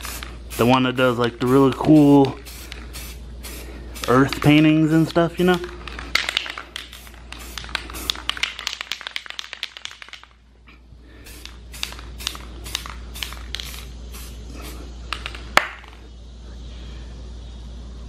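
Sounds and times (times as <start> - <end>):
spray can hissing spurts: 0.0 - 10.4, 11.2 - 16.0.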